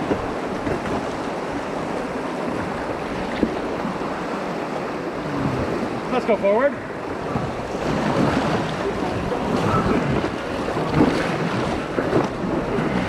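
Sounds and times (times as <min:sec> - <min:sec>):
river water rushing and splashing: 0:00.0 - 0:13.0
wind buffeting microphone: 0:00.0 - 0:13.0.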